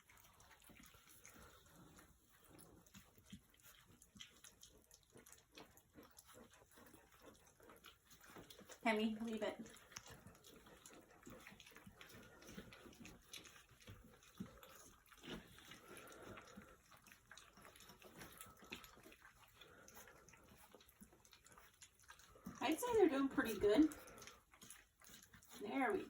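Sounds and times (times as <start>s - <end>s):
puppies lapping and smacking food: 0.0s - 26.0s.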